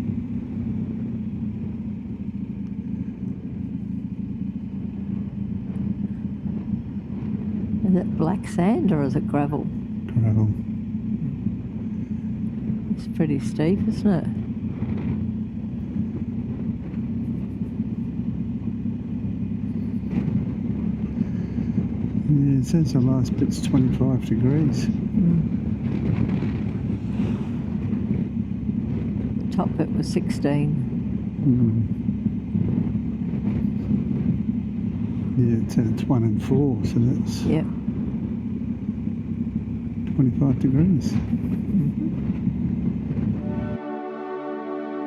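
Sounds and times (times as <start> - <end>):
motorcycle engine humming: 0.0 - 45.0
road noise: 0.0 - 45.0.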